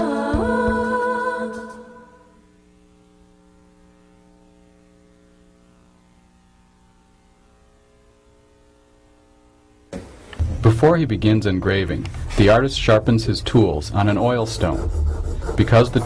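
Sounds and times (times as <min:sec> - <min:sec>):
faint electrical mains hum: 0:00.0 - 0:16.0.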